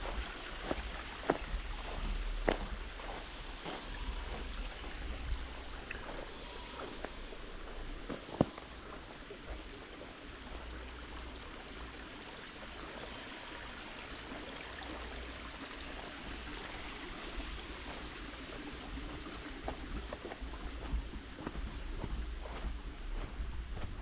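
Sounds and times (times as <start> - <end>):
stream running: 0.0 - 24.0.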